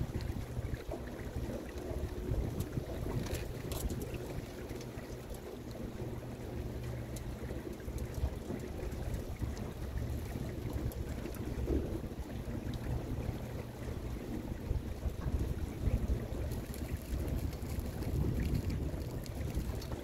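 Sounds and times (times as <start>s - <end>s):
boat motor humming: 0.0s - 20.0s
faint splashes: 0.0s - 20.0s
water noise: 0.0s - 20.0s
wind rumbling on microphone: 0.0s - 20.0s.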